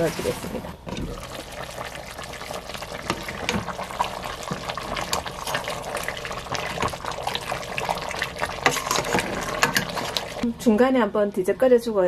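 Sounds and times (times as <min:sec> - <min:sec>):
ladle stirring in a pot: 0:00.0 - 0:10.4
thick sauce bubbling and sloshing: 0:00.1 - 0:10.5.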